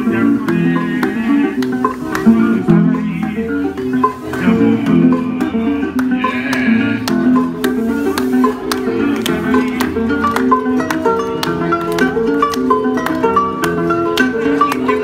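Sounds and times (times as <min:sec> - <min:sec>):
plucked harp-lute notes: 0:00.0 - 0:15.0
hand claps: 0:00.5 - 0:03.1, 0:04.0 - 0:15.0.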